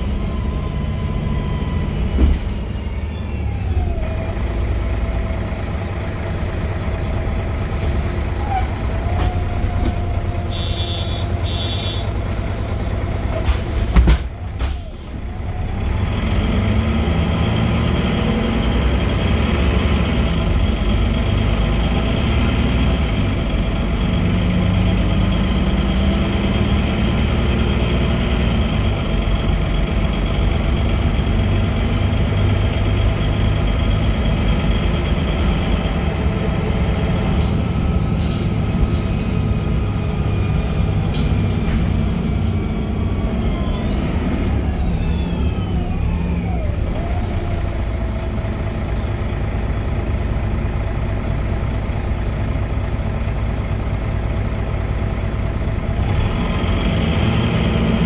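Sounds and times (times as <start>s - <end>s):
bus engine and drivetrain noise: 0.0s - 58.0s.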